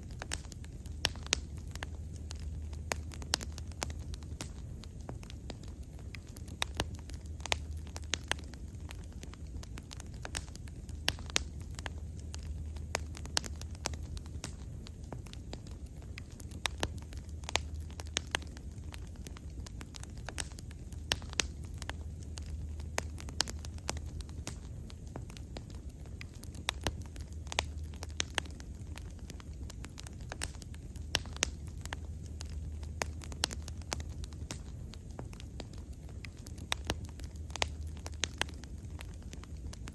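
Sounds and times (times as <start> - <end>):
bonfire crackling and popping: 0.0 - 39.9
low rumble: 0.0 - 39.9.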